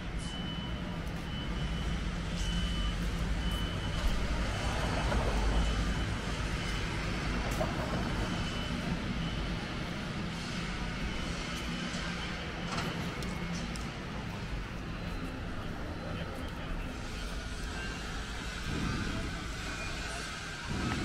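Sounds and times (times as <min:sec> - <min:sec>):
street traffic rumbling: 0:00.0 - 0:21.0.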